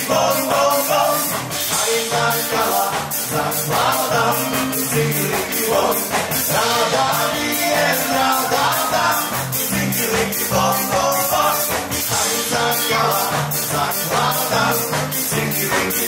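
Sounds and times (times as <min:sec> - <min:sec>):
steady drum beat: 0:00.0 - 0:16.0
upbeat dance music: 0:00.0 - 0:16.0.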